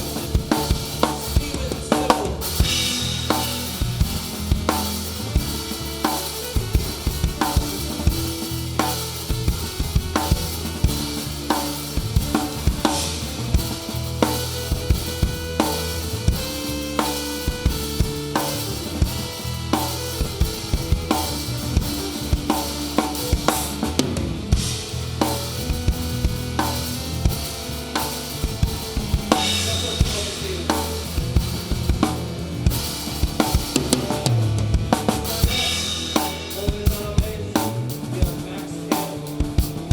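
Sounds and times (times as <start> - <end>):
drum kit beat: 0.0 - 39.9
low bass notes: 0.0 - 39.9
rock band playing live: 0.0 - 39.9.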